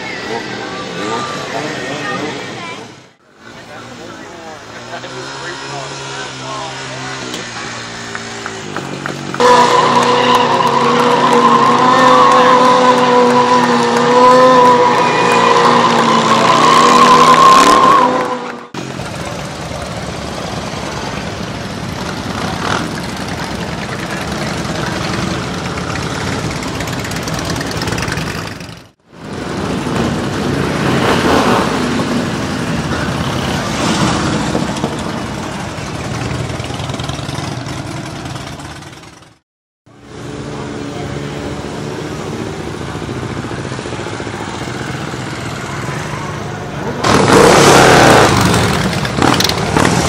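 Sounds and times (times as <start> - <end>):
motorcycle engines at high revs: 3.8 - 39.4, 40.0 - 50.0
motorcycles rumbling past: 4.4 - 39.4, 40.2 - 50.0.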